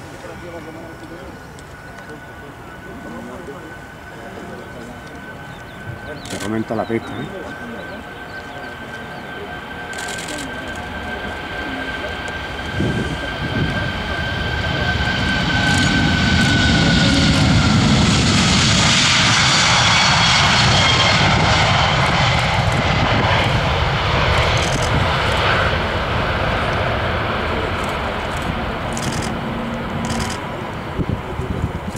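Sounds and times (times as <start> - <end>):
jet airliner taking off: 0.0 - 31.9.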